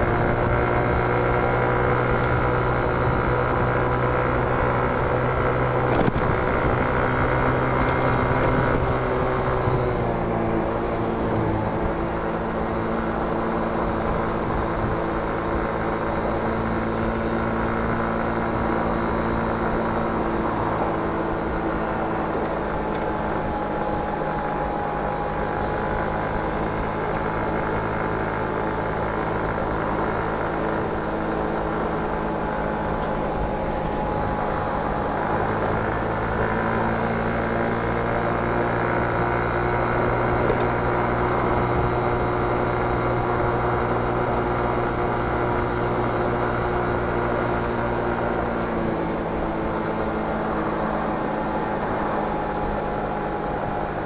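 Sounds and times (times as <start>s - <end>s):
road noise: 0.0s - 54.0s
scooter engine running: 0.0s - 54.0s.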